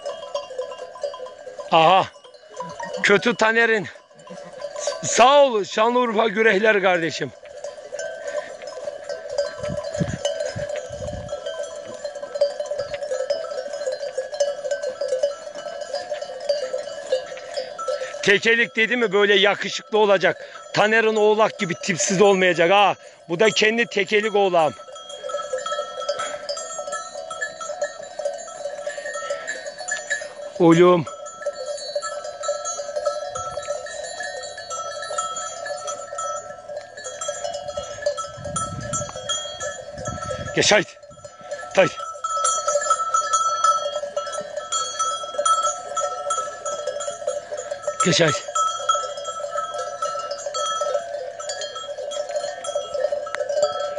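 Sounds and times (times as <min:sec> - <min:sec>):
livestock bells clanking: 0:00.0 - 0:53.9.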